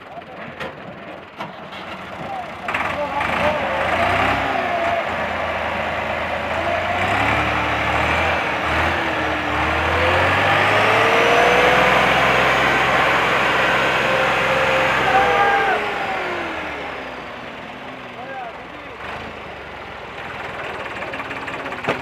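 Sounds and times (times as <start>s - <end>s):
tractor engine running hard: 0.0s - 22.0s.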